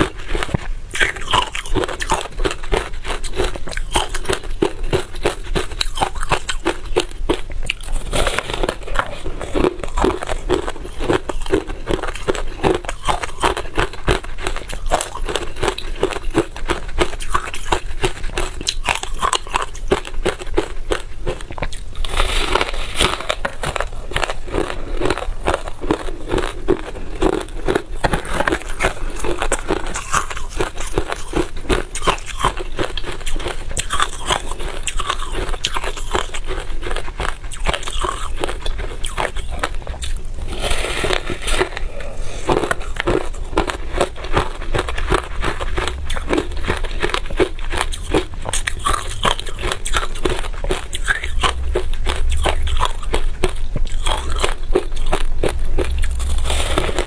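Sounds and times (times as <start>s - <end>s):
chewing frost crunches: 0.0s - 57.0s.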